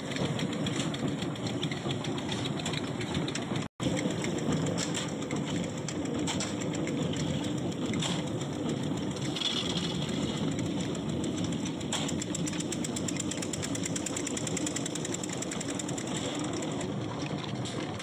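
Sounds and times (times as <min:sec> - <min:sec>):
pipe mould rattling on rollers: 0:00.0 - 0:18.0.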